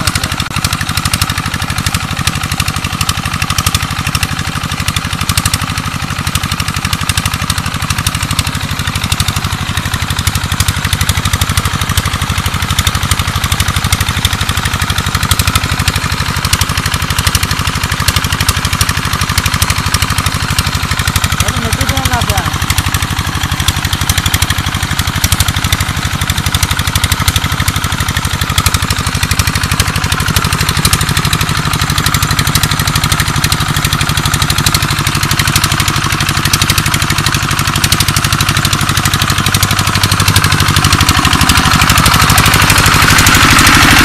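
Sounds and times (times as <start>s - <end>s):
diesel engine knocking: 0.0s - 44.0s.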